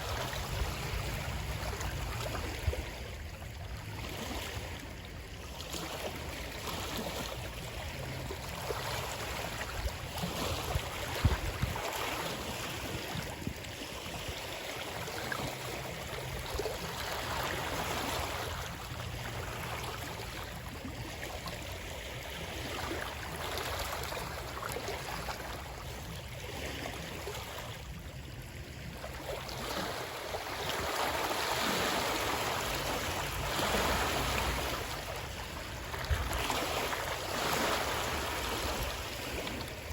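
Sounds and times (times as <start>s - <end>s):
flowing water rushing: 0.0s - 39.9s
water splashes: 0.0s - 39.9s.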